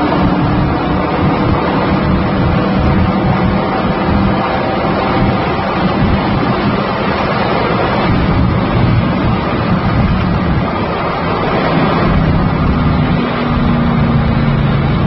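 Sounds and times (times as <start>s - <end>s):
road and wind noise: 0.0s - 15.0s
truck engine droning: 0.0s - 15.0s.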